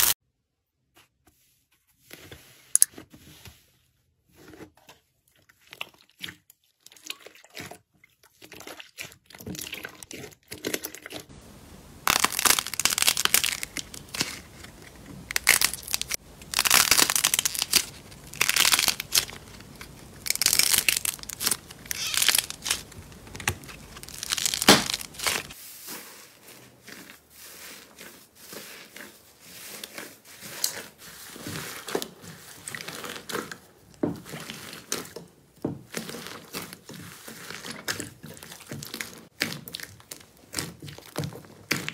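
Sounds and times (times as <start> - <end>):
hands squeezing slime: 5.3 - 35.2, 35.9 - 41.9.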